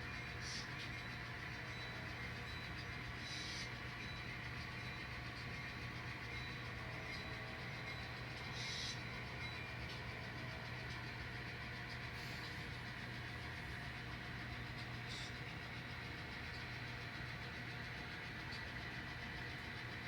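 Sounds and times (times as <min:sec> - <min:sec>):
locomotive engine drone through small speaker: 0:00.0 - 0:20.0.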